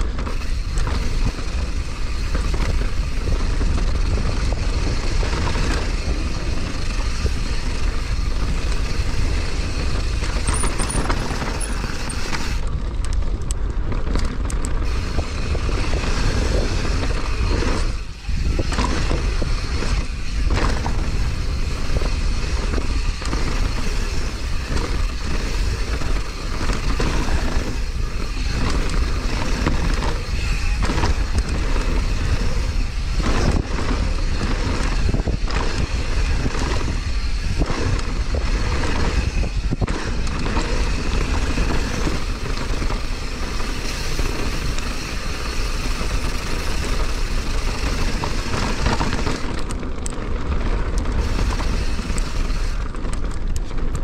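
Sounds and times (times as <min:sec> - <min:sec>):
bike knocking and rattling: 0:00.0 - 0:54.0
wind buffeting microphone: 0:00.0 - 0:54.0.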